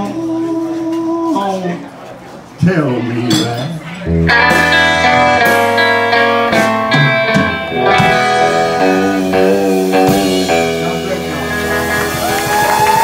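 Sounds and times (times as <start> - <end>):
live country band playing: 0.0 - 13.0.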